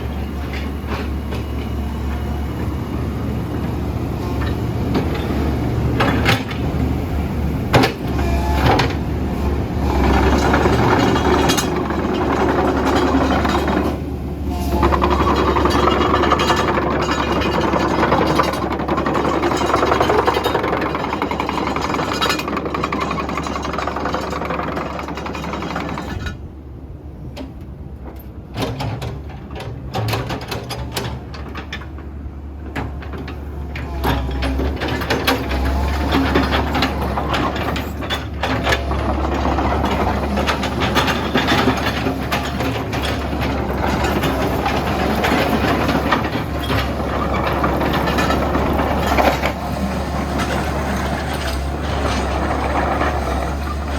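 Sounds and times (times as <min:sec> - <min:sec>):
excavator diesel engine: 0:00.0 - 0:53.9.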